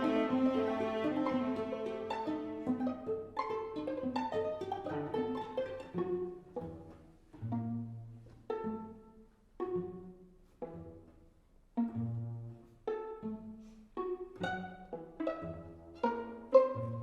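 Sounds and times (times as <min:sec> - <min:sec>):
string quartet playing: 0:00.0 - 0:17.0.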